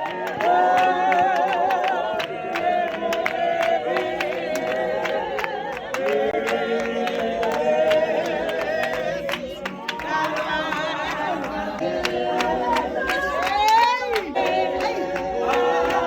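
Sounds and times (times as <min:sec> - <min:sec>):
many voices singing together: 0:00.0 - 0:16.0.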